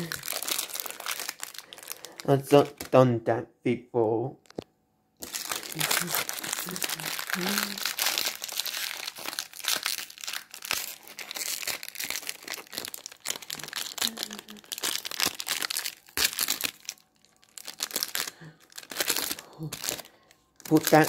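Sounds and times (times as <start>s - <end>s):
plastic wrapper crinkling and tearing: 0.0s - 3.0s, 5.2s - 21.0s.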